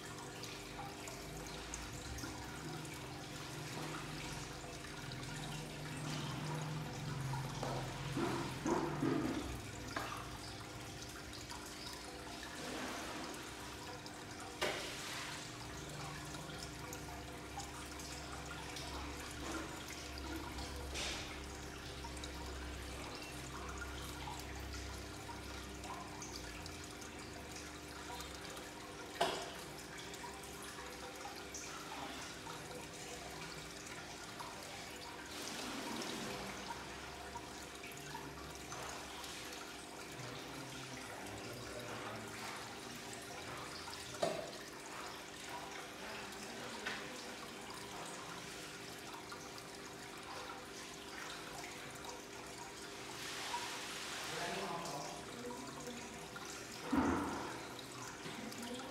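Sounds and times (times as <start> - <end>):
aquarium water bubbling: 0.0 - 58.9.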